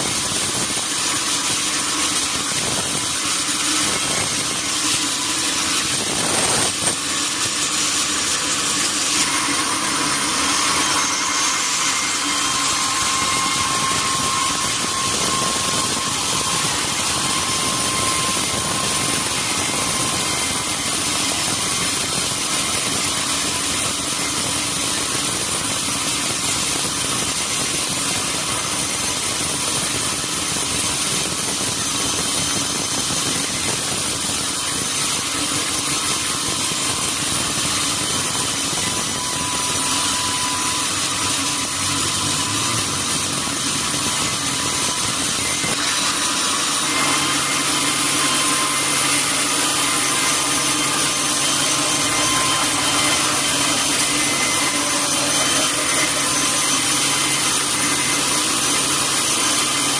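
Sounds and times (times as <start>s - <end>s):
sawmill machinery hissing: 0.0s - 59.9s.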